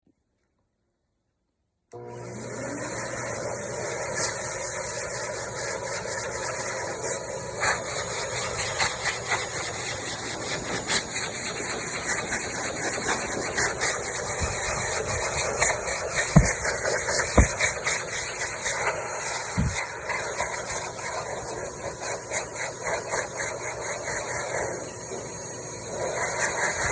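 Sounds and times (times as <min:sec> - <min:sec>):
hair dryer blowing air: 0:01.9 - 0:26.9.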